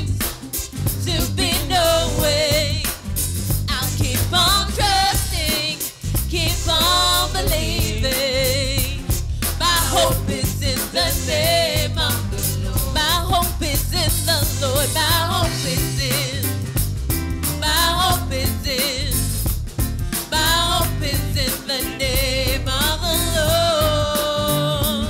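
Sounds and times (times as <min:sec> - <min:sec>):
live band with drum kit: 0:00.0 - 0:25.0
woman singing into a microphone: 0:01.0 - 0:03.0, 0:03.7 - 0:16.6, 0:17.6 - 0:19.3, 0:20.3 - 0:25.0.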